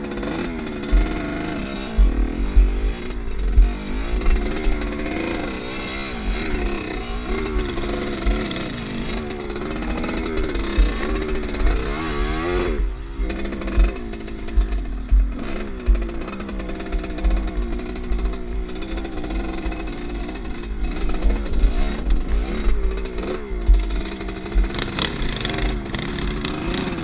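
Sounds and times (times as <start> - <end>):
motorcycle engine revving: 0.0 - 27.0
heavy low thumping: 0.8 - 5.4, 6.2 - 19.8, 20.4 - 25.8.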